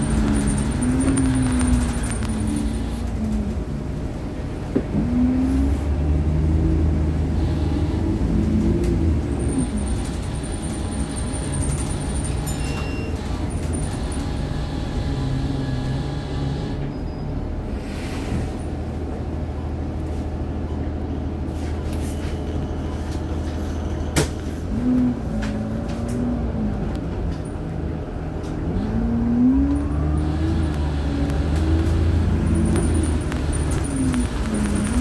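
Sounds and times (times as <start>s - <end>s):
bus diesel engine: 0.0s - 35.0s.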